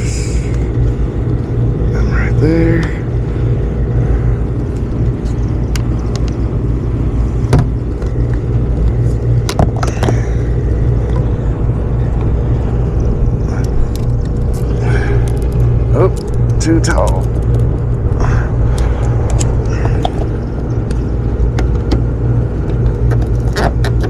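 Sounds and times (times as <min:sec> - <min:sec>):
hvac unit humming: 0:00.0 - 0:24.0.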